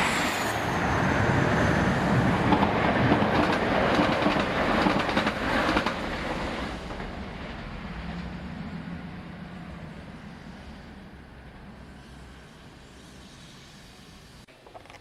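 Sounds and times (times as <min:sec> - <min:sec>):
steam train rolling past: 0:00.0 - 0:14.5.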